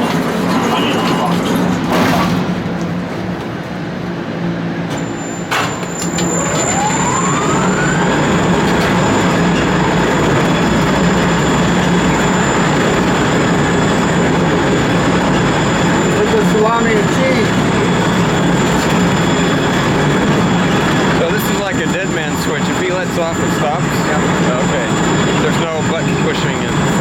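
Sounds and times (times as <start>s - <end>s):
hoist drive motor whine: 0.0s - 27.0s.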